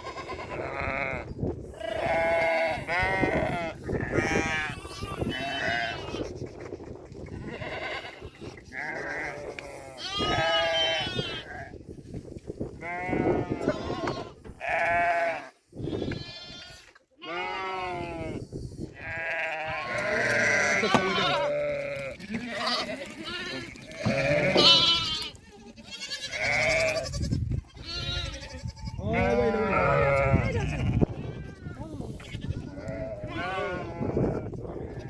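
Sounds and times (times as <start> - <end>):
sheep bleating: 0.0 - 6.2, 7.4 - 11.7, 12.8 - 18.4, 19.0 - 34.4.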